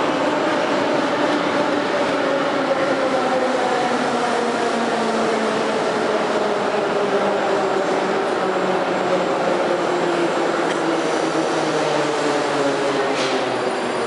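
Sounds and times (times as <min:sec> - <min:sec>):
train equipment hum and whine: 0:00.0 - 0:14.0.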